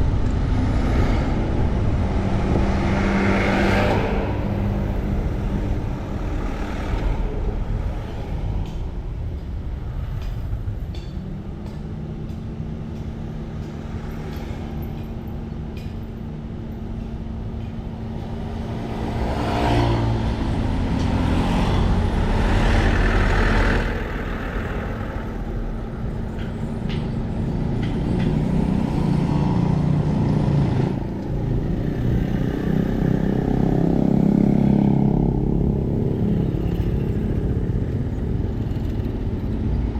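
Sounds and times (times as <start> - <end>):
road vehicle engines: 0.0 - 39.9
traffic noise: 0.0 - 39.9.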